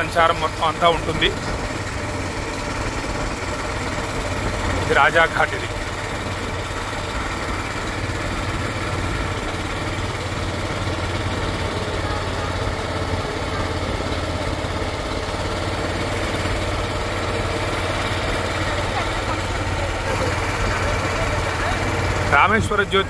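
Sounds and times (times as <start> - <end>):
motorboat engine droning: 0.0 - 23.0.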